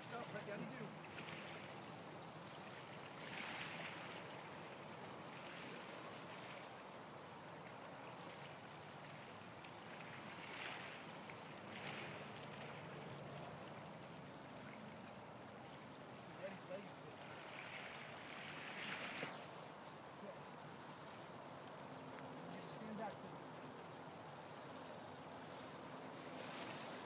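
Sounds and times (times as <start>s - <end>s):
small waves lapping on rocks: 0.0s - 27.0s.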